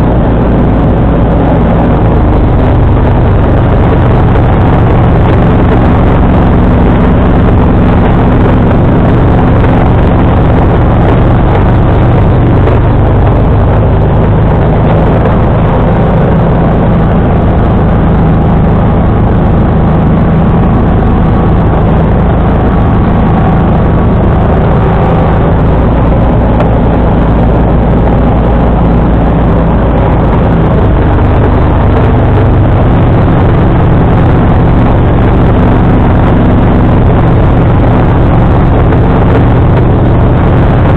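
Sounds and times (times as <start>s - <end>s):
garden tractor engine under load: 0.0s - 40.9s.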